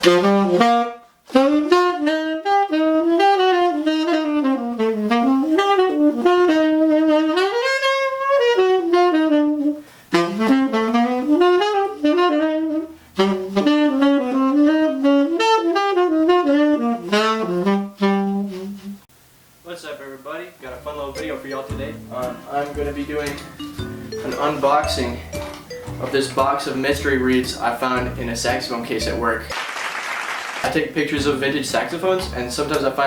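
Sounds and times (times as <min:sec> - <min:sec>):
solo saxophone jazz line: 0:00.0 - 0:19.1, 0:20.5 - 0:29.6, 0:30.3 - 0:33.0.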